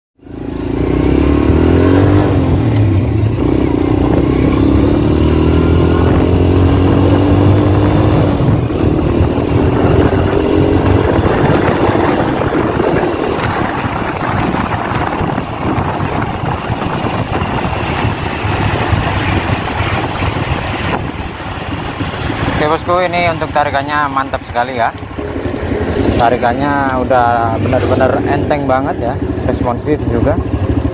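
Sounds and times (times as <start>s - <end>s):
motorcycle engine accelerating: 0.2s - 30.9s.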